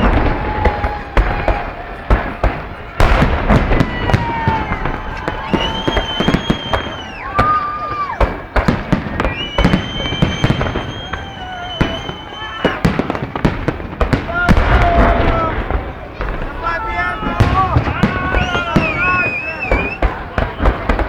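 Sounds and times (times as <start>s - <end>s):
fireworks bangs and crackles: 0.0s - 21.0s
whistling fireworks: 0.0s - 21.0s.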